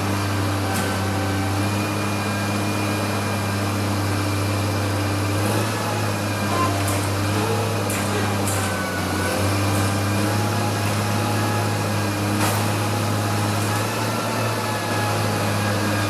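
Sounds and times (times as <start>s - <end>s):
garbage truck engine running: 0.0s - 16.0s.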